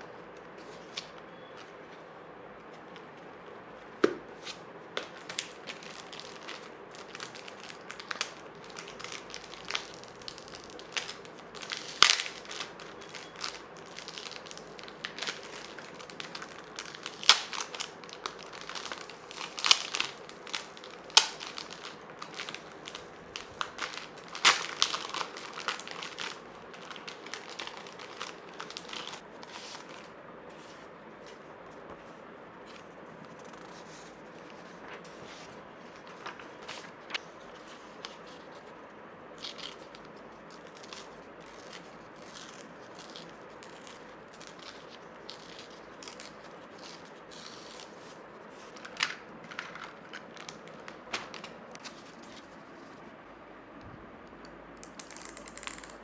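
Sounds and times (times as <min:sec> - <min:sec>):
crinkling and rustling: 0:04.1 - 0:38.8, 0:39.4 - 0:53.2.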